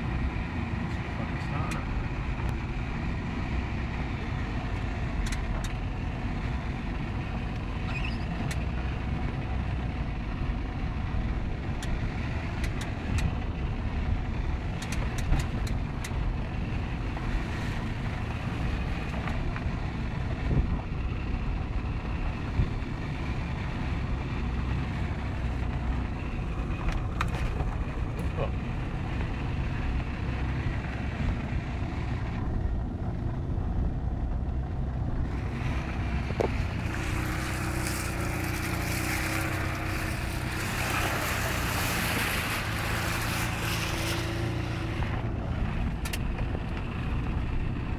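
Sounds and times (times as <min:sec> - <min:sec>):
engine and drivetrain rumble: 0:00.0 - 0:47.9.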